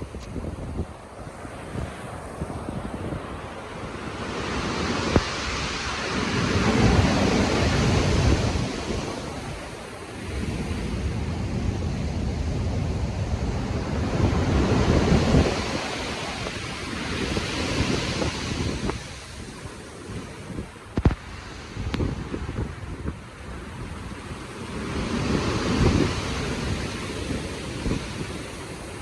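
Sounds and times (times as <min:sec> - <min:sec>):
sea waves breaking: 0:00.0 - 0:29.0.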